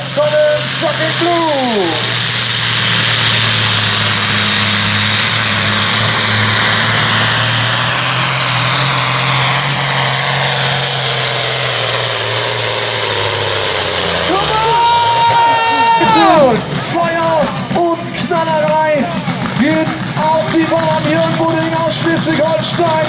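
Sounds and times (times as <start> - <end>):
diesel engine under heavy load: 0.0 - 23.0.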